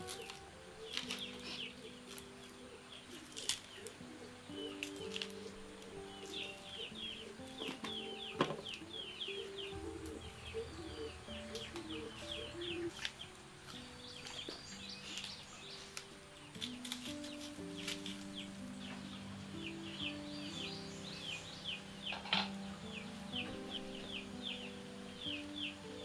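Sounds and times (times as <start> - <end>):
small birds chirping: 0.0 - 26.0
soft instrumental music: 0.0 - 26.0.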